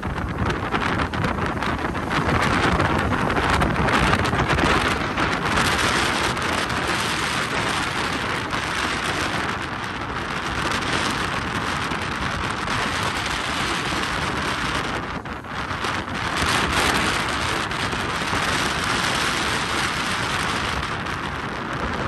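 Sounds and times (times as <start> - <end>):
low rumble on microphone: 0.0 - 22.0
storm rain and wind: 0.0 - 22.0.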